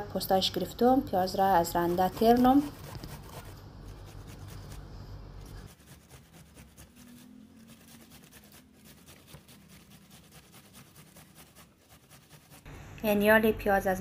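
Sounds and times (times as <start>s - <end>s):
onion rasping on metal grater: 1.2s - 12.7s.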